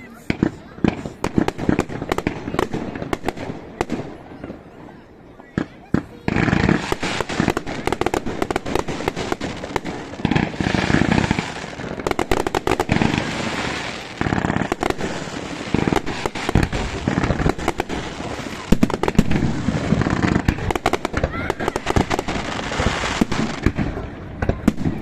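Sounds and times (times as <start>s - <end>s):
firecrackers cracking: 0.0s - 4.7s, 5.4s - 25.0s.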